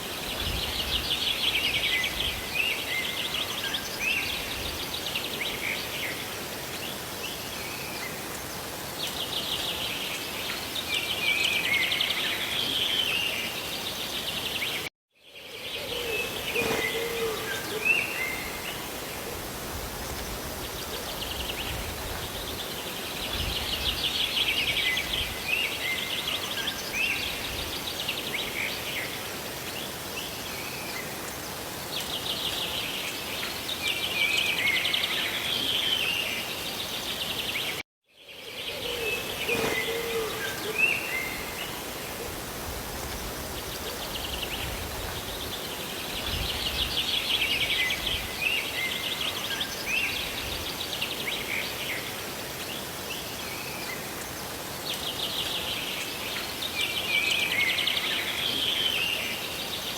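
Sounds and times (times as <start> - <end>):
rain and waterfall hiss: 0.0 - 59.9.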